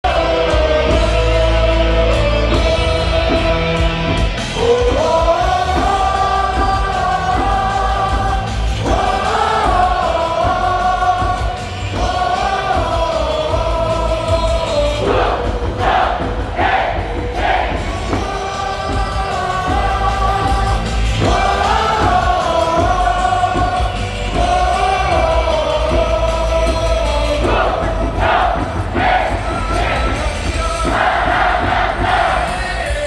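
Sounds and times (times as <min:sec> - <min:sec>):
backing music: 0:00.0 - 0:33.0
crowd singing in unison: 0:00.0 - 0:33.0.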